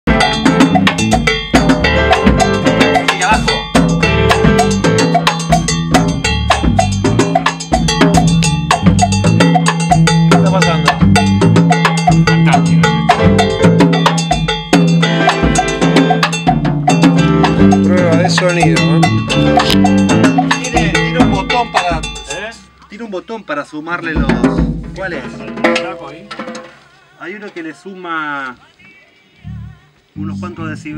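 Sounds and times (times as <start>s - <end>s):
drum kit playing: 0.0s - 23.1s, 23.9s - 27.0s.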